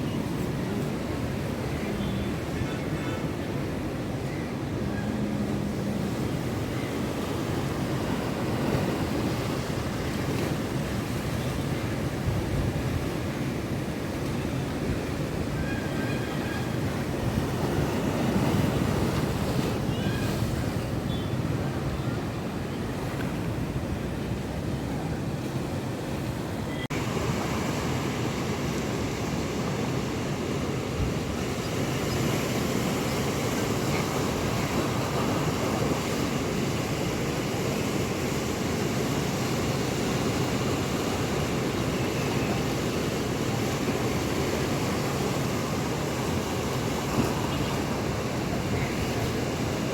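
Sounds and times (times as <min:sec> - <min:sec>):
sea surf breaking: 0:00.0 - 0:49.9
strong wind: 0:00.0 - 0:49.9.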